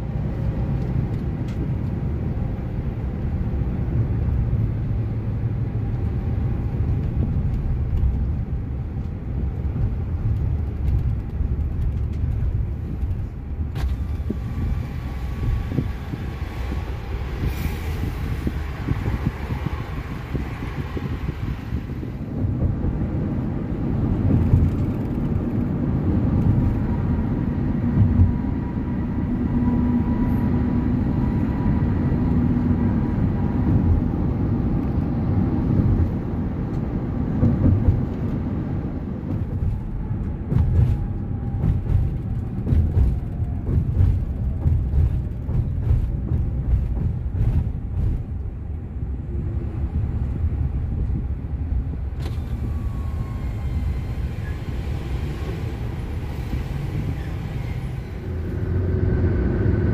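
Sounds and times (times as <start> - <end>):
van engine and tyre rumble: 0.0 - 59.9.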